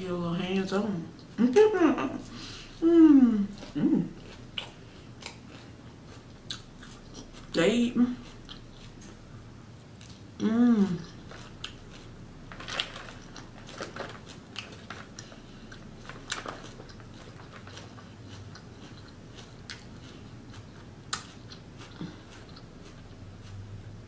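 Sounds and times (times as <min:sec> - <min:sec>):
chewing and crunching salad: 0:03.4 - 0:24.0.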